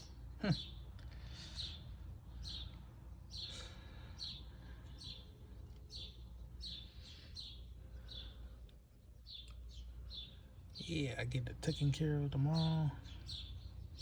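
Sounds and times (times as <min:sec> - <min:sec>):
bird chirping: 0:00.0 - 0:14.0.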